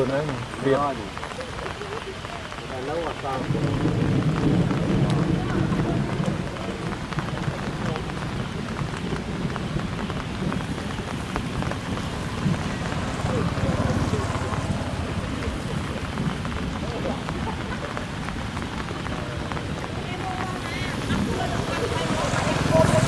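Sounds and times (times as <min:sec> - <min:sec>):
steady rain with drop ticks: 0:00.0 - 0:23.0.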